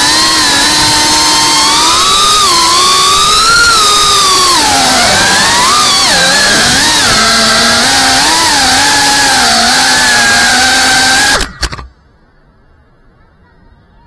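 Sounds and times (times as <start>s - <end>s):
drone propellers buzzing: 0.0s - 11.9s.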